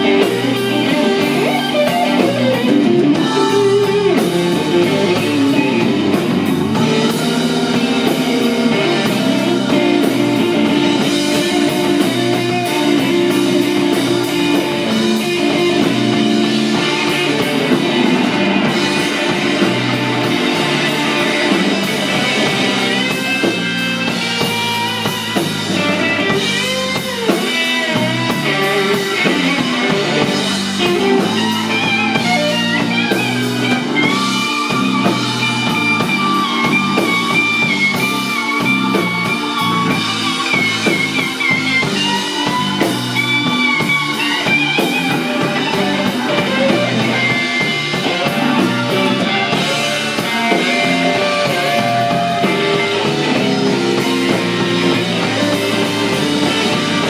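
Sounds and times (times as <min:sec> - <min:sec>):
blues-rock band playing: 0:00.0 - 0:57.0
lead electric guitar bent notes: 0:00.0 - 0:57.0.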